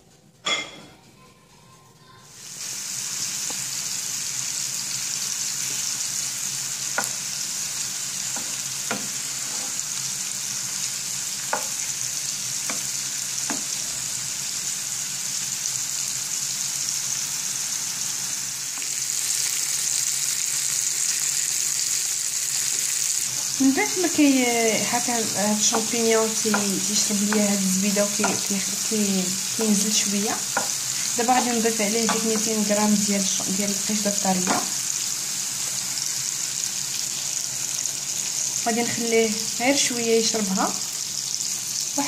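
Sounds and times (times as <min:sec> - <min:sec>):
food sizzling in a pan: 0:02.2 - 0:42.0.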